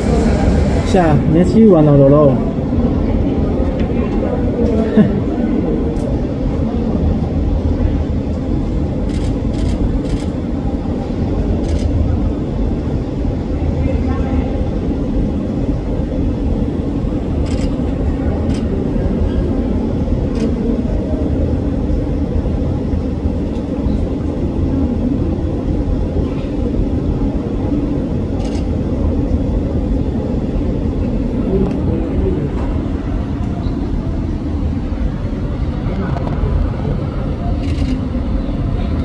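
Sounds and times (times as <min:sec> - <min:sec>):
murmur of voices: 0:00.0 - 0:39.0.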